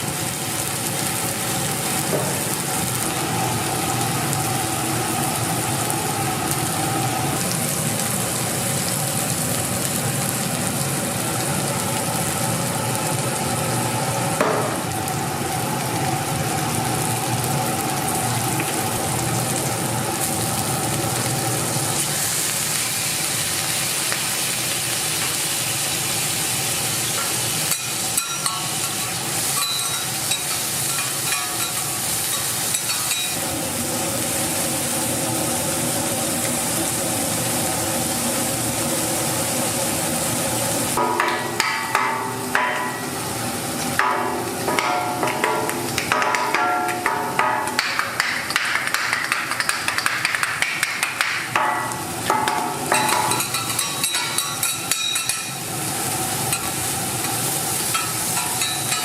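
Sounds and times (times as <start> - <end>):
rice sizzling in a pan: 0.0 - 59.0.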